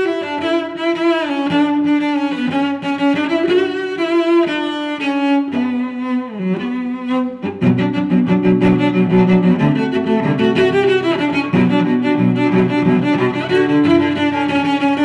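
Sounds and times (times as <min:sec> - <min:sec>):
slow bowed string melody: 0:00.0 - 0:15.0.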